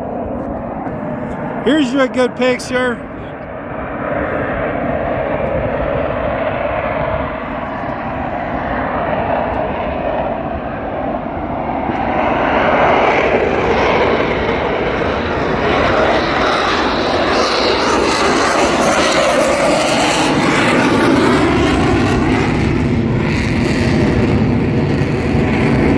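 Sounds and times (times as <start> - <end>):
jet aircraft roaring overhead: 0.0 - 25.9.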